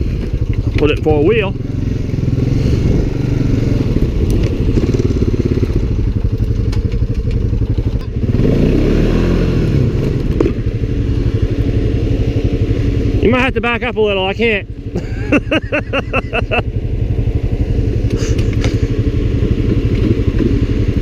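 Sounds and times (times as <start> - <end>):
engine running hard: 0.0 - 21.0.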